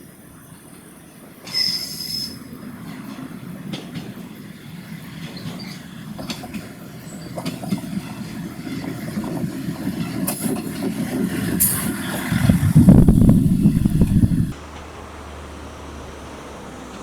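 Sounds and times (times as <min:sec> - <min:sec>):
diesel railcar rumble: 0:00.0 - 0:17.0.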